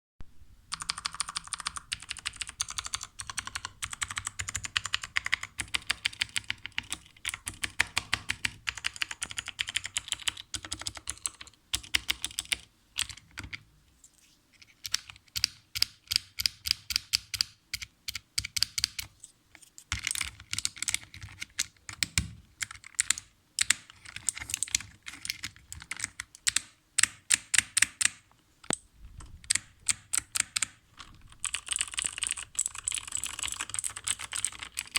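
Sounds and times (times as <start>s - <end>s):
mechanical keyboard typing: 0.7s - 13.6s, 14.7s - 19.1s, 19.8s - 34.9s.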